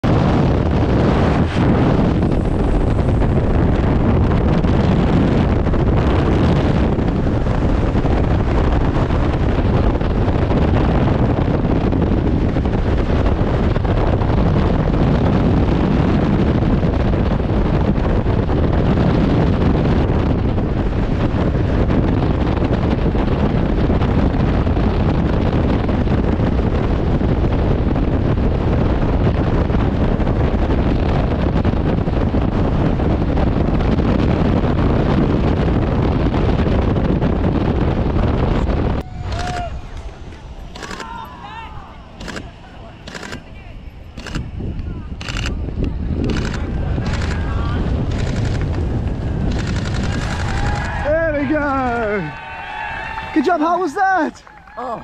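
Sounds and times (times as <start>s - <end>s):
freefall wind buffeting microphone: 0.0s - 55.0s.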